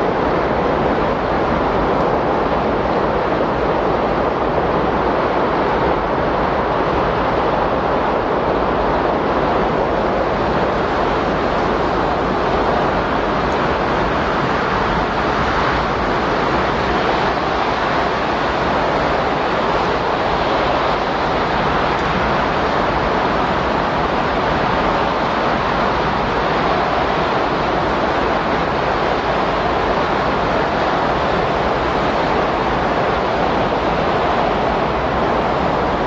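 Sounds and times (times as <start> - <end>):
rushing wind: 0.0 - 36.0.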